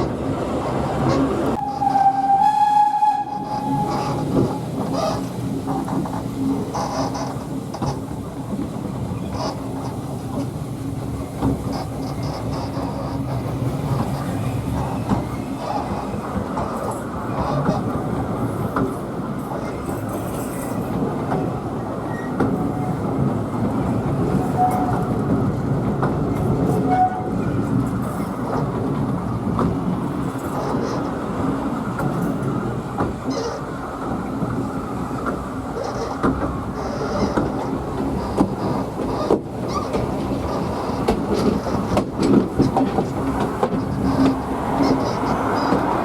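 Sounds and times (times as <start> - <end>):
train wheels rumbling on track: 0.0 - 46.0
wheels clicking over rails: 3.4 - 46.0.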